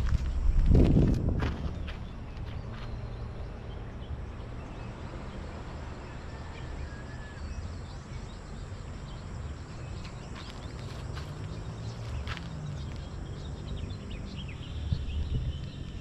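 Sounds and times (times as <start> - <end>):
steady low rumble: 0.0 - 5.6, 7.8 - 16.0.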